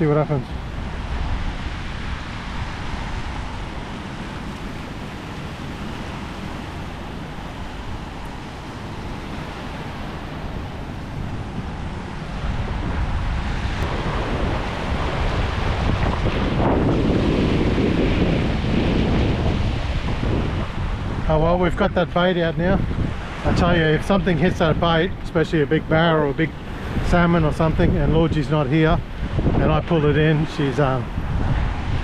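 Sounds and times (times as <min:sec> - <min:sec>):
surf waves breaking on sand: 0:00.0 - 0:32.0
wind buffeting microphone: 0:00.0 - 0:32.0.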